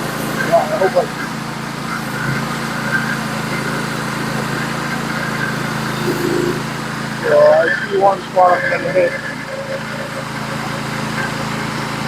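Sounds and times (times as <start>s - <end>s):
sawmill engine humming: 0.0s - 12.0s.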